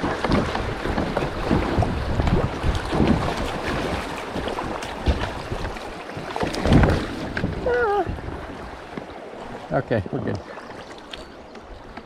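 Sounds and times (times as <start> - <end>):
wind buffeting microphone: 0.0 - 9.7
river water rushing: 0.0 - 11.8
kayak splashes and knocks: 0.0 - 12.0.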